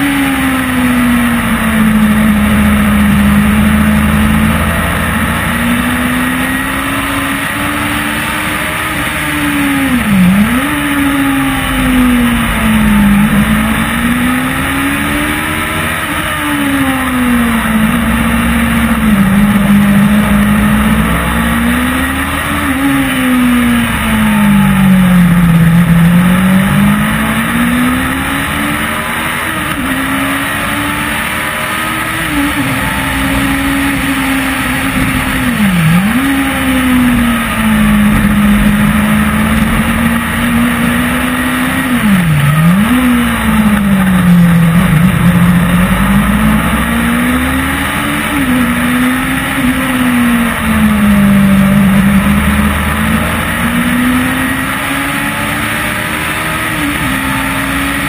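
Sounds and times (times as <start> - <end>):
car engine revving: 0.0 - 58.0
wind and road noise: 0.0 - 58.0.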